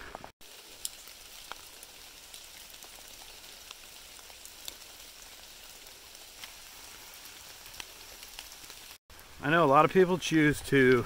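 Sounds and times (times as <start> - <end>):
light rain hissing on leaves: 0.0 - 11.0
rain drips ticking: 0.2 - 9.3.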